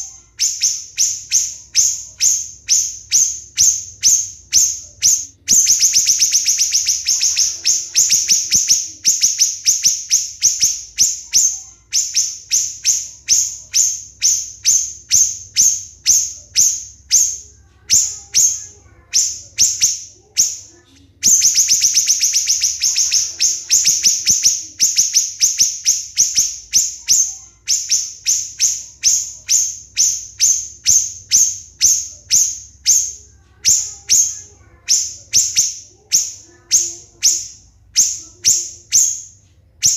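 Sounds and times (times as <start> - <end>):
bird singing shrill high notes: 0.0 - 20.7, 21.3 - 39.9.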